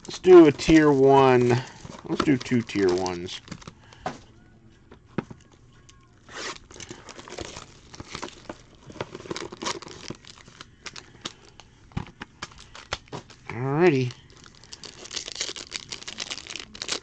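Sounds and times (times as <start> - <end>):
foil wrapper crinkling and tearing: 0.0 - 4.0, 6.2 - 11.7, 12.4 - 17.0.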